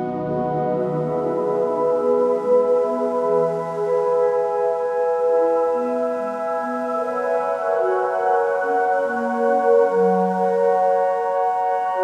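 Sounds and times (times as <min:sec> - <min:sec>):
ambient music with soft chords: 0:00.0 - 0:12.0.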